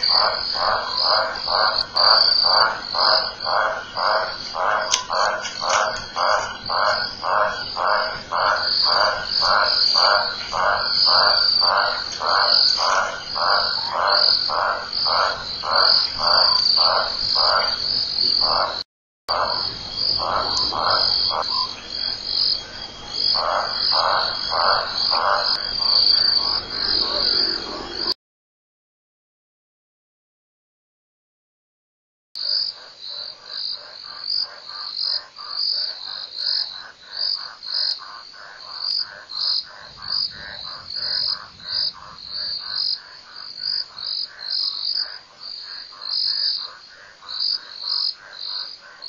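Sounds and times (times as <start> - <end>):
night insects trilling: 0.0 - 28.1, 32.4 - 49.0
frog croaking: 0.0 - 28.2, 32.4 - 49.0.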